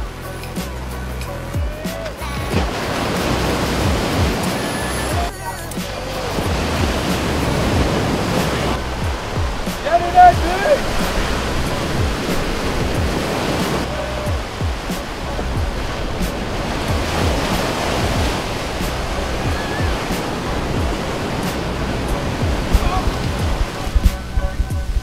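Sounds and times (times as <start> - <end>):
background music: 0.0 - 25.0
ocean surf breaking: 0.0 - 25.0.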